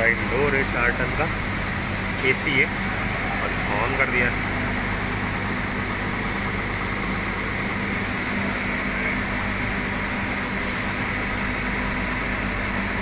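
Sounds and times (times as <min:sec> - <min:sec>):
air conditioner fan whirring: 0:00.0 - 0:13.0.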